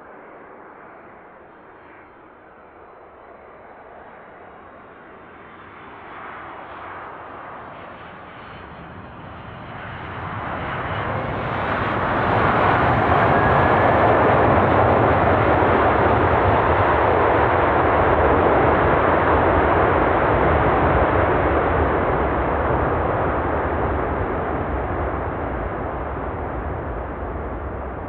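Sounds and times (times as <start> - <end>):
jet airliner engines landing: 0.0 - 28.0.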